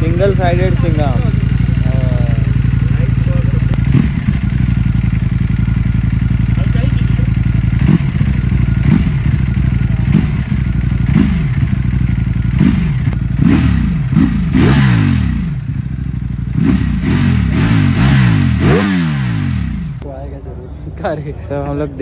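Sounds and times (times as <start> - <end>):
motorcycle engine revving: 0.0 - 20.1.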